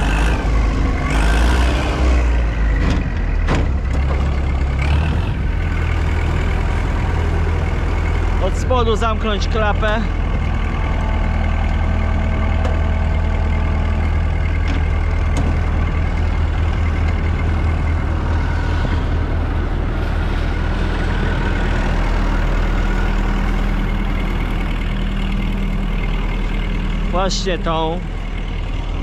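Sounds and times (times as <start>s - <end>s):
combine harvester engine running: 0.0s - 29.0s.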